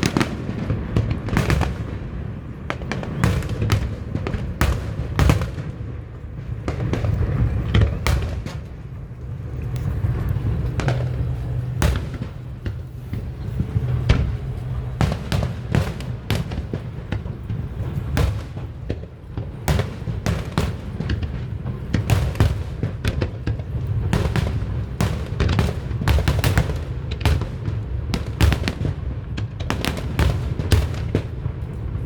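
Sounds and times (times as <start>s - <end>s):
continuous low rumble: 0.0s - 32.0s
firework bangs and booms: 0.0s - 32.0s.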